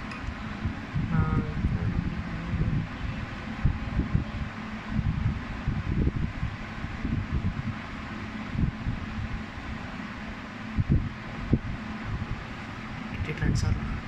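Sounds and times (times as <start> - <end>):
faint steady hum: 0.0 - 14.0
wind buffeting microphone: 0.0 - 14.0.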